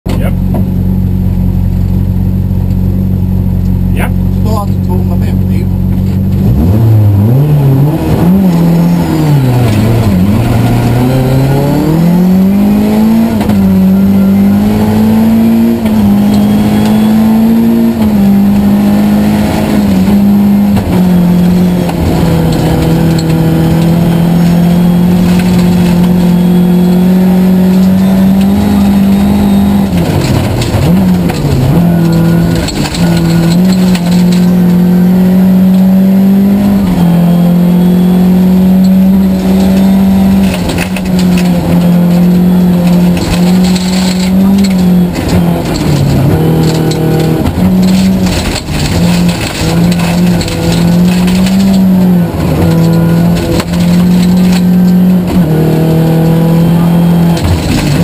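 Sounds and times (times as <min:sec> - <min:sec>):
rally car engine revving: 0:00.1 - 0:58.0.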